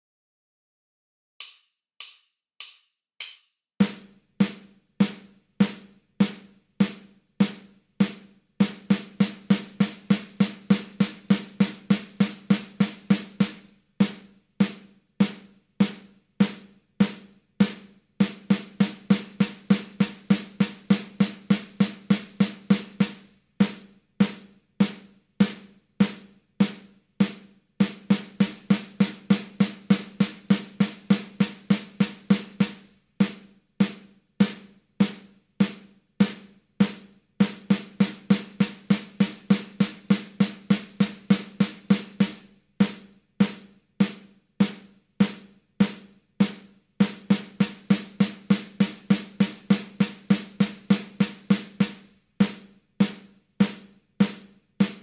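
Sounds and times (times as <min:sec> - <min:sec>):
snare drum strokes: 0:01.4 - 0:55.0.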